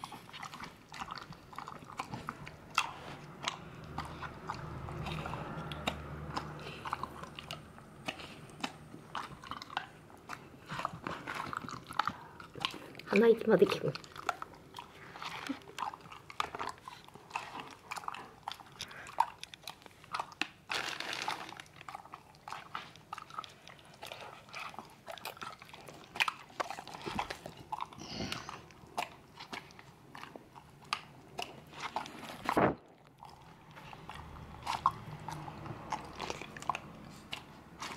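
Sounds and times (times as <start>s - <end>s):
dog chewing wet food: 0.0s - 37.9s.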